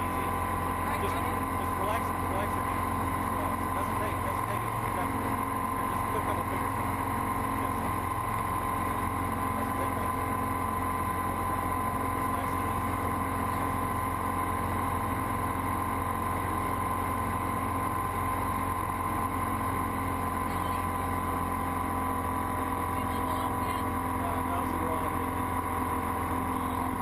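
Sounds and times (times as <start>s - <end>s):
airplane engine and propeller drone: 0.0s - 27.0s.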